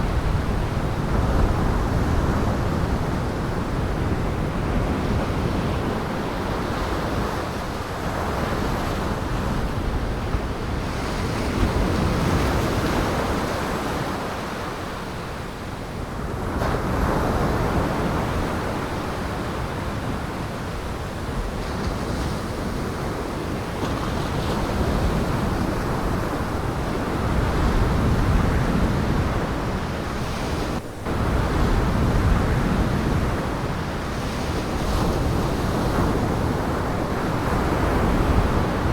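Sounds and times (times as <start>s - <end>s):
wind buffeting microphone: 0.0s - 14.7s, 16.0s - 38.9s.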